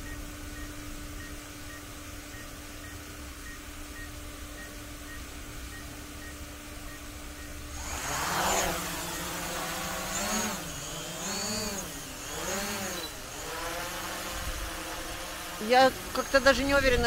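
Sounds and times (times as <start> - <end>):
drone propeller whine: 0.0 - 17.0.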